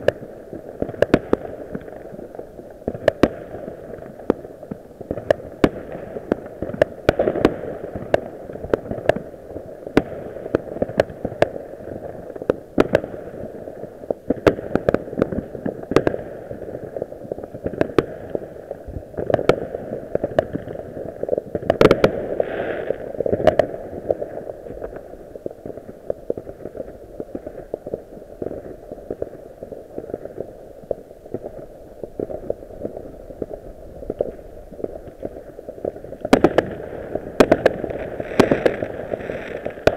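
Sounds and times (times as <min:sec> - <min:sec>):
firework bangs and pops: 0:00.0 - 0:39.9
low rumble of explosions: 0:00.0 - 0:39.9.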